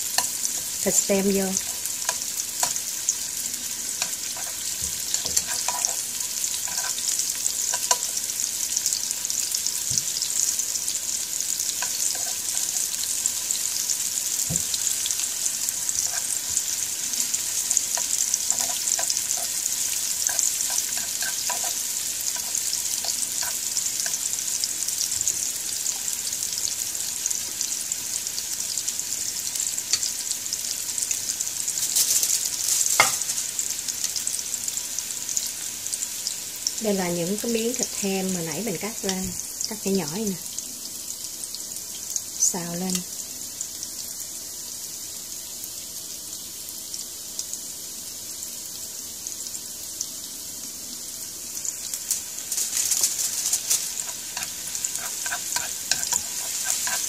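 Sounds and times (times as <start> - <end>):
shallots sizzling in hot oil: 0.0 - 57.0.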